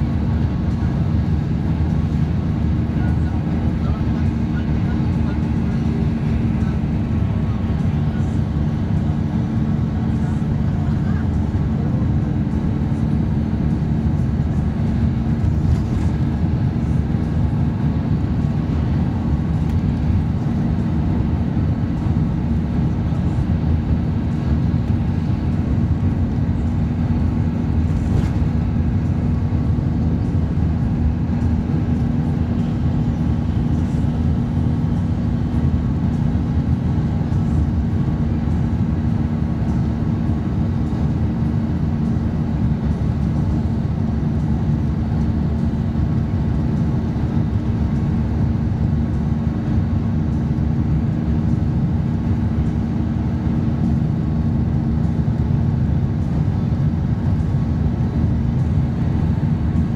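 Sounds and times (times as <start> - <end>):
bus engine drone: 0.0 - 59.9
constant low hum: 0.0 - 59.9.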